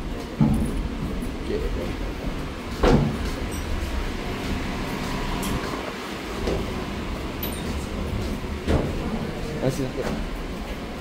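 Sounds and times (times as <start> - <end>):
footsteps in gangway: 0.0 - 11.0
steady low rumble: 0.0 - 11.0.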